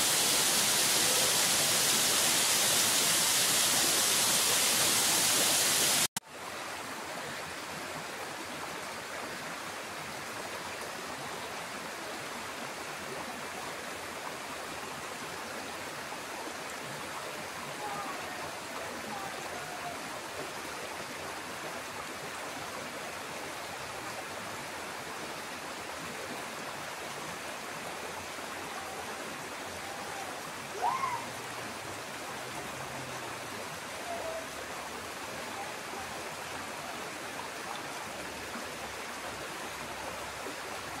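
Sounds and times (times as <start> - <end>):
stream rushing over rocks: 0.0 - 41.0.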